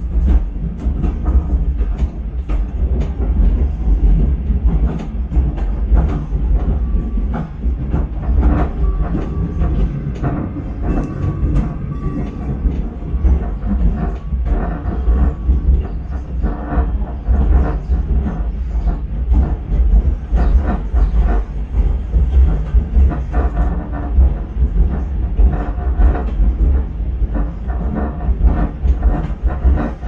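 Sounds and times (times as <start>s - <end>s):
tram rolling along track: 0.0s - 30.0s
wheels clacking and rattling: 0.0s - 30.0s.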